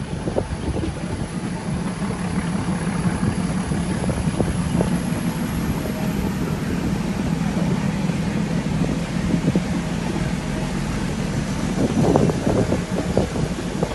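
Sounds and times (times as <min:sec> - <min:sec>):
train carriage rumble: 0:00.0 - 0:13.9.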